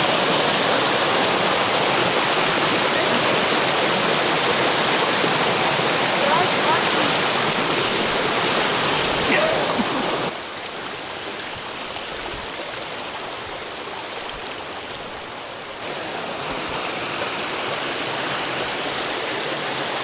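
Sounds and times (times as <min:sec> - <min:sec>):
rushing stream water: 0:00.0 - 0:20.0.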